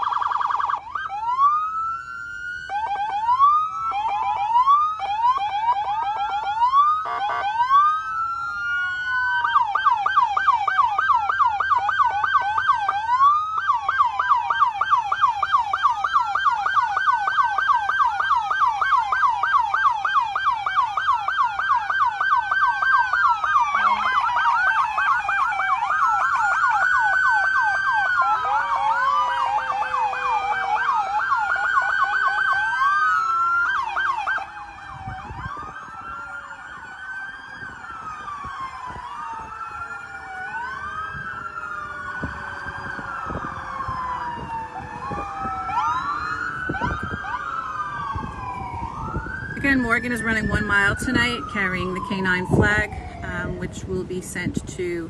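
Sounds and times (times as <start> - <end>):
police sirens: 0.0 - 55.0.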